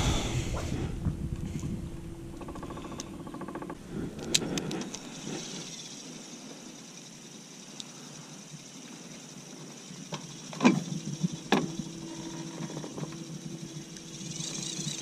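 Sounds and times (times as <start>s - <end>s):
low steady hum: 0.0s - 15.0s
spinning reel clicking: 2.5s - 15.0s.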